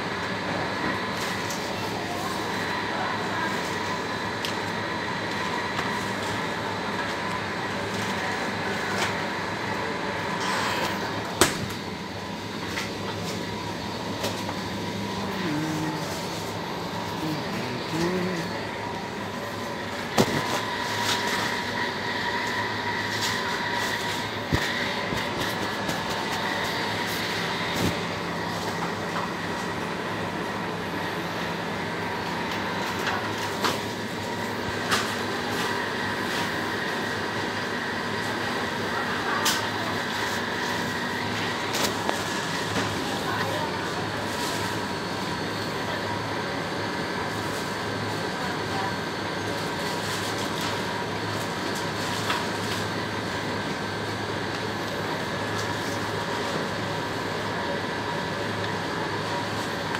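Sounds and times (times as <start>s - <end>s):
refrigerator hum and hiss: 0.0s - 59.9s.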